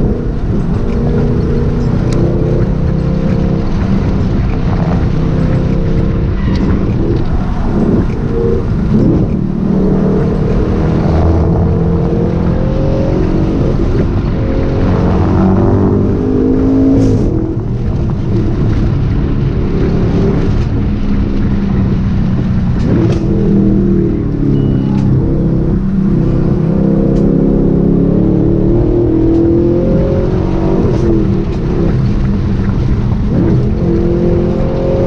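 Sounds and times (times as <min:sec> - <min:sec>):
car engine accelerating: 0:00.0 - 0:35.0
road and tyre noise: 0:00.0 - 0:35.0.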